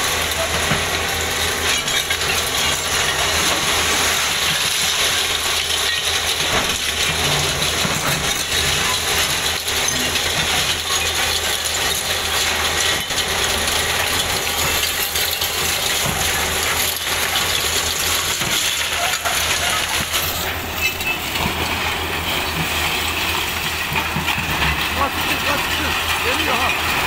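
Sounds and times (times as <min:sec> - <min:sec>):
concrete and rubble crashing down: 0:00.0 - 0:27.0
hydraulic excavators running: 0:00.0 - 0:27.0.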